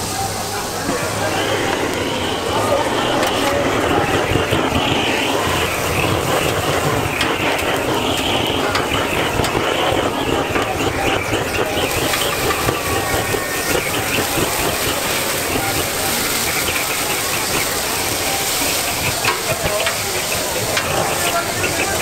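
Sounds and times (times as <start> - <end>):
squid sizzling on a griddle: 0.6 - 22.0
popping on the griddle: 4.0 - 22.0.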